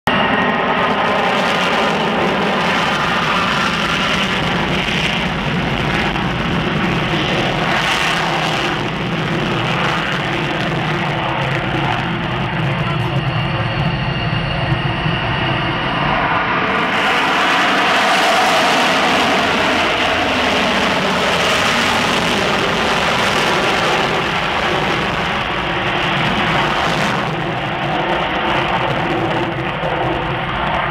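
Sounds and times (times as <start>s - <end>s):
jet engines roaring with whine: 0.1s - 30.9s.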